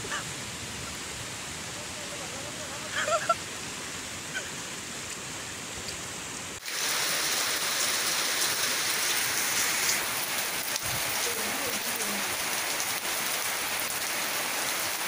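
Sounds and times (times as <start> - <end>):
floodwater rushing: 0.0 - 15.0
heavy rain on wet concrete: 0.0 - 15.0.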